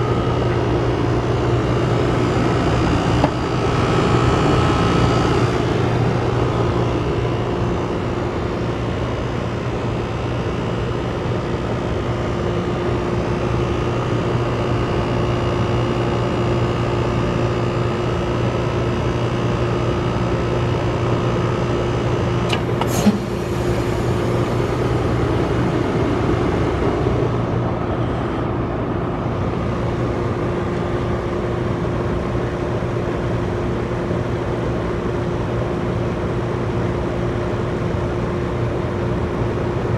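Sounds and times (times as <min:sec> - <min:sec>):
heat pump humming: 0:00.0 - 0:39.9.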